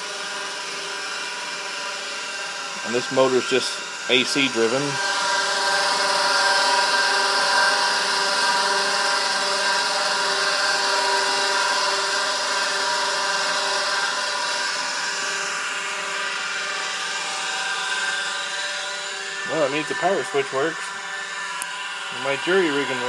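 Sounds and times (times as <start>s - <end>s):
hard drive spindle whine: 0.0s - 23.0s.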